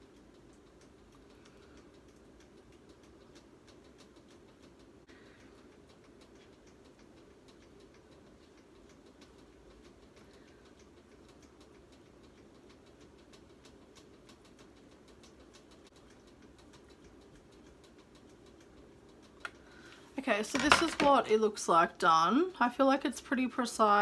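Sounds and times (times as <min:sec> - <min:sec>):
small irregular ticks: 0:00.0 - 0:20.2.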